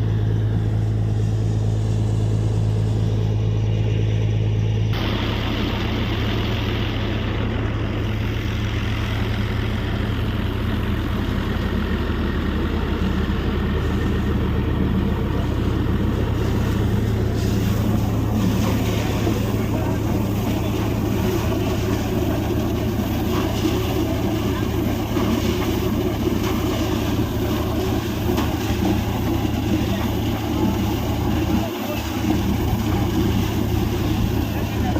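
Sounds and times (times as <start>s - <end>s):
drilling rig engine drone: 0.0s - 34.9s.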